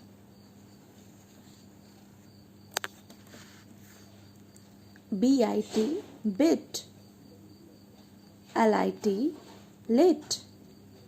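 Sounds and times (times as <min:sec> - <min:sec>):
faint electrical hum and hiss: 0:00.0 - 0:11.0.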